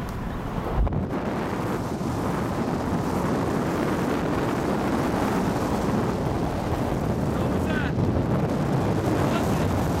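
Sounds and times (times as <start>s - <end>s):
car road and engine noise: 0.0s - 10.0s
wind buffeting microphone: 0.0s - 10.0s.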